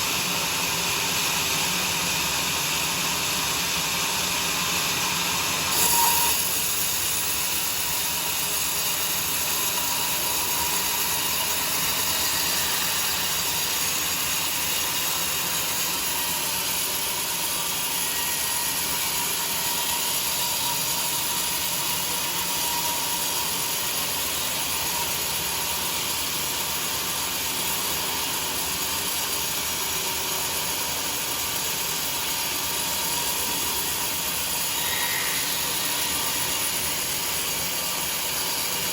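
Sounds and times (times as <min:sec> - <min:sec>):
sawmill running: 0:00.0 - 0:38.9.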